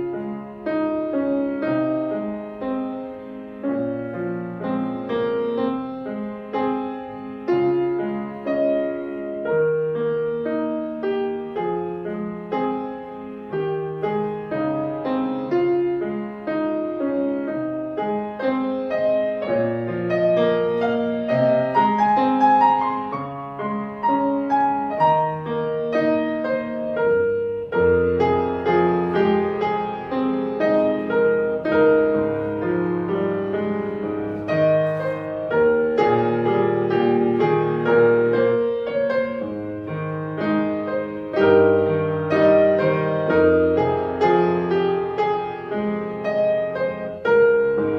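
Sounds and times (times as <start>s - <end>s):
solo piano piece: 0.0s - 47.9s.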